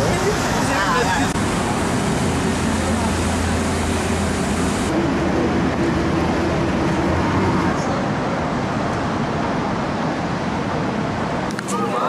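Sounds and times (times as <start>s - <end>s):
low engine drone: 0.0s - 11.5s
city street traffic: 0.0s - 12.0s.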